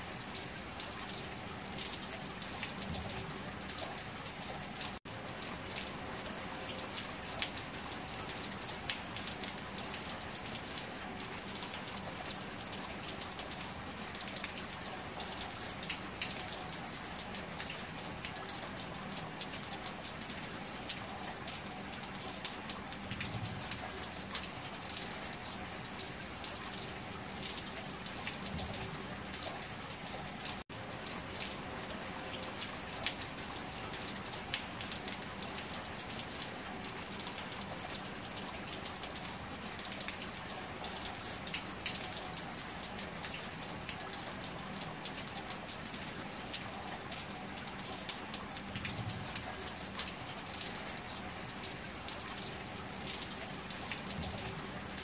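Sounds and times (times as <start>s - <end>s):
heavy rain on wet paving: 0.0s - 55.0s.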